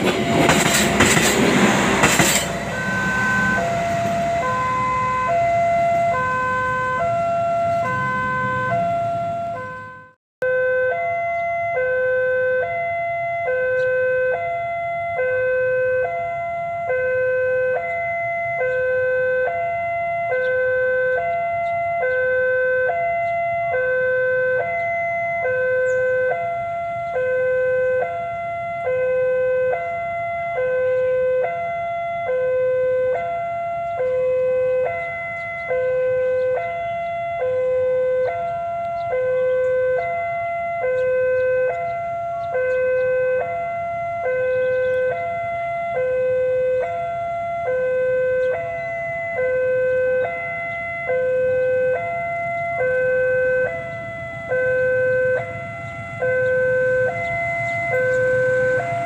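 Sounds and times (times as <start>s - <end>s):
level crossing two-tone alarm: 2.6s - 59.0s.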